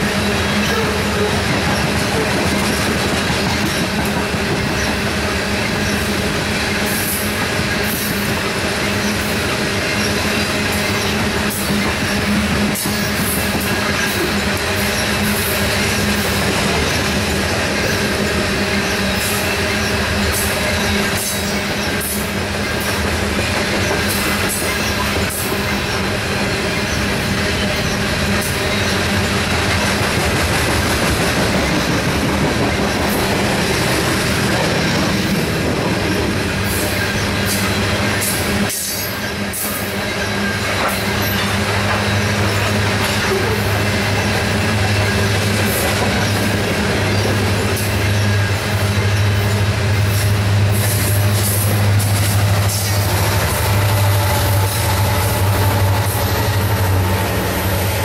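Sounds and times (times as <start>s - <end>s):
freight train rumbling: 0.0s - 58.0s.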